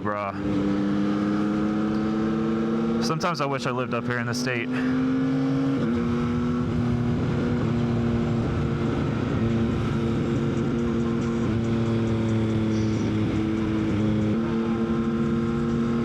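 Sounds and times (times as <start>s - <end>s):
motorcycle engine cruising: 0.4s - 16.0s.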